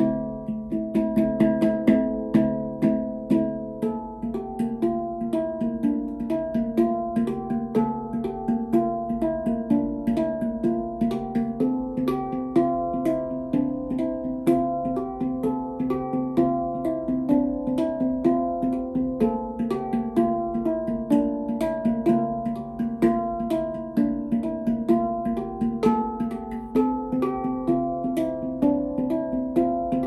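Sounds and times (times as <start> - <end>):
handpan melody: 0.0 - 30.0.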